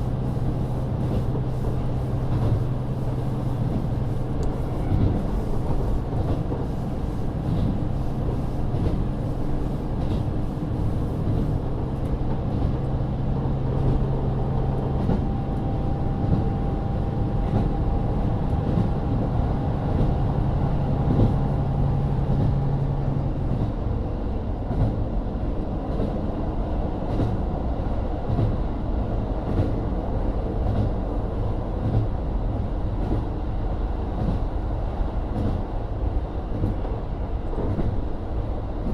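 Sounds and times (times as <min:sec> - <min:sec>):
train wheels rolling on rails: 0:00.0 - 0:38.9.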